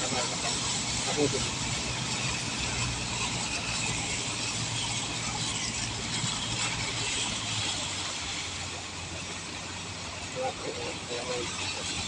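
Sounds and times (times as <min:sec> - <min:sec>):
vehicle engine hum: 0:00.0 - 0:12.0
water rushing and splashing: 0:00.0 - 0:12.0.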